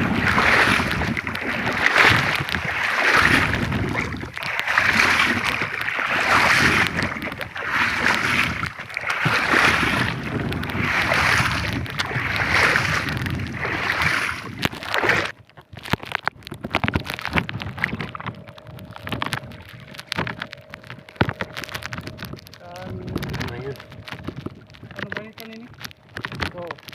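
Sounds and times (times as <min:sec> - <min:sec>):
water splashing beside boat: 0:00.0 - 0:26.9
knocks and clicks: 0:00.7 - 0:26.9.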